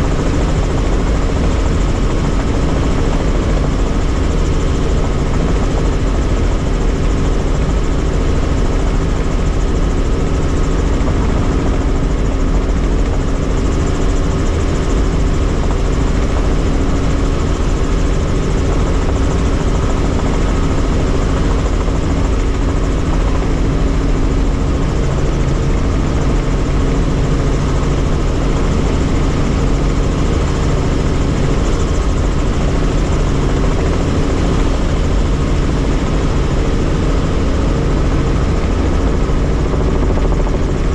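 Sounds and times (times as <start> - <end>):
helicopter rotor and engine drone: 0.0 - 40.9.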